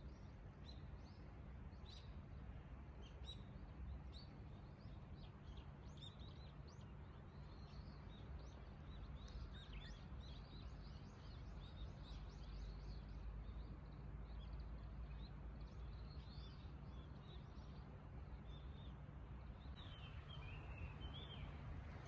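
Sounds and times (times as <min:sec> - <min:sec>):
small birds chirping: 0:03.0 - 0:22.0.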